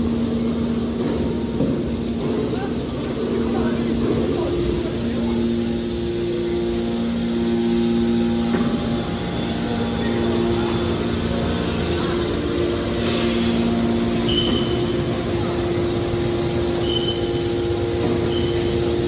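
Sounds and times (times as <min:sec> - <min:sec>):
droning tones: 0:00.0 - 0:19.0
hydraulic pump humming: 0:00.0 - 0:19.0.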